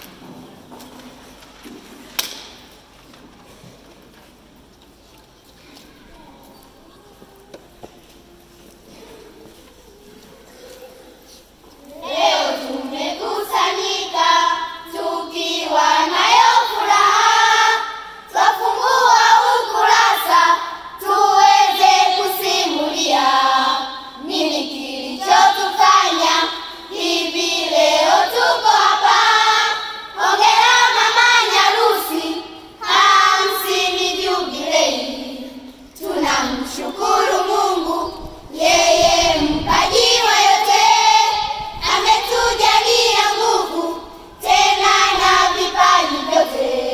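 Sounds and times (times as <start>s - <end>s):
children's choir reciting: 0.0s - 46.9s.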